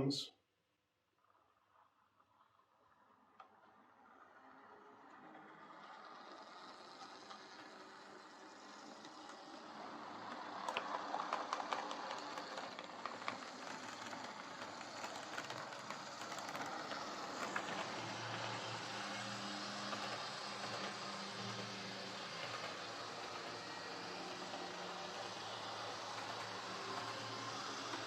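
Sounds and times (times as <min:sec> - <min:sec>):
model train motor whirring: 0:02.5 - 0:28.0.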